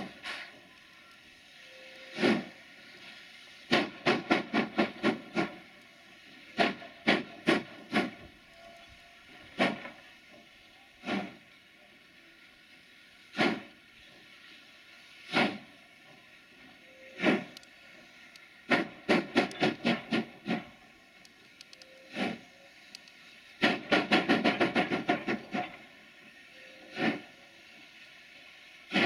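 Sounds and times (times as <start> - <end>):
steam locomotive exhaust beats: 0.0 - 29.0.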